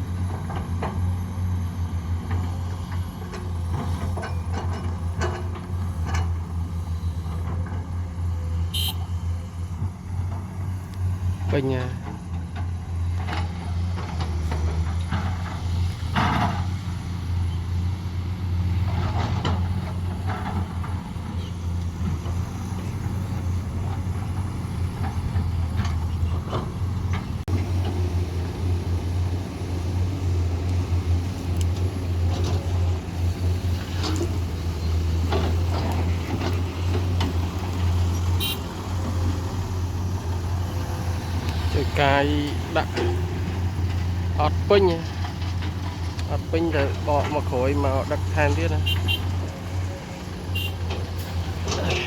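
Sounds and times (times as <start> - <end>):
diesel engines droning: 0.0 - 52.0.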